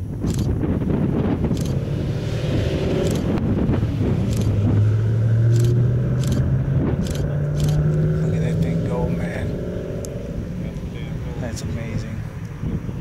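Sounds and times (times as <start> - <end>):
road noise: 0.0 - 13.0
vehicle engine humming: 0.0 - 13.0.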